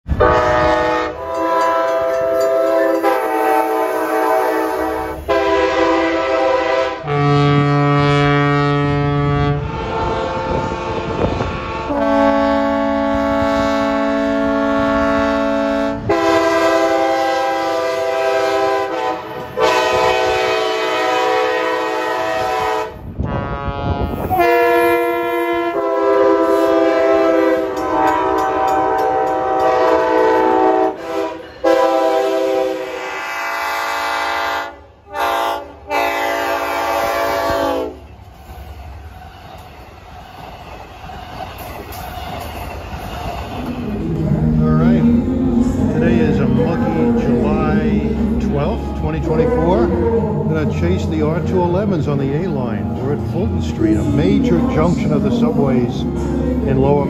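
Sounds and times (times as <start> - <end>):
deeper train horns: 0.0 - 38.4, 43.2 - 57.0
train horns: 0.1 - 38.2, 43.8 - 57.0.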